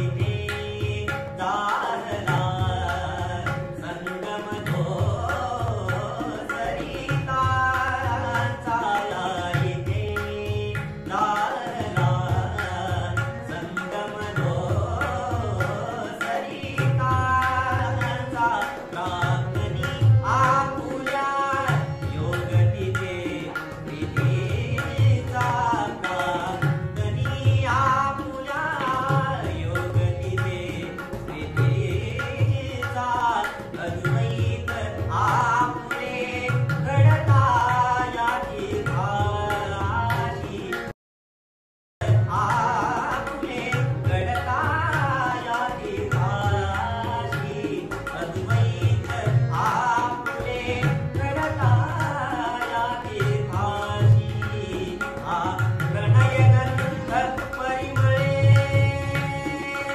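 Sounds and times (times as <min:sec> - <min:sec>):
man singing: 0:00.0 - 0:40.9, 0:42.0 - 0:59.9
harmonium: 0:00.0 - 0:41.0, 0:42.0 - 0:59.9
tabla rhythm: 0:00.0 - 0:41.0, 0:42.0 - 0:59.9.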